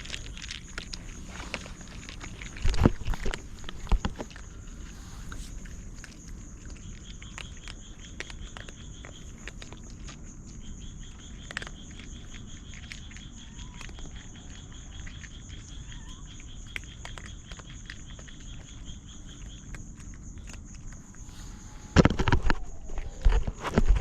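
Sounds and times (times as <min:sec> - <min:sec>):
high insect trill: 0:00.0 - 0:24.0
low insect trill: 0:00.0 - 0:24.0.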